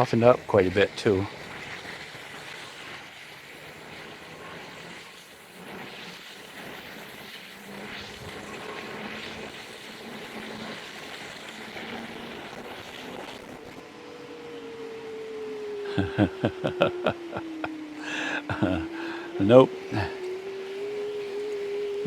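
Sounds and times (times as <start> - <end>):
steady hiss: 0.0 - 13.9, 17.9 - 22.0
electric bike motor whine: 0.0 - 22.0.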